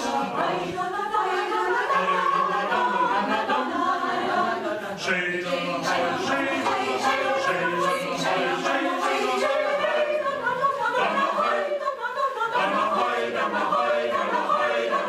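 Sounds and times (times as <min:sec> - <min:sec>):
mixed choir singing a cappella: 0:00.0 - 0:15.0.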